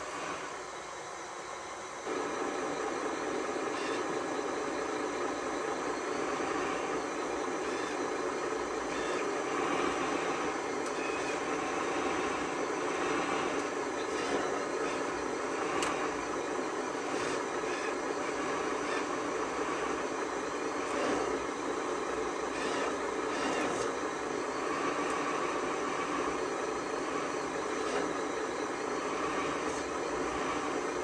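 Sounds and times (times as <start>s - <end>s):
model vehicle motors whirring: 5.3s - 31.0s.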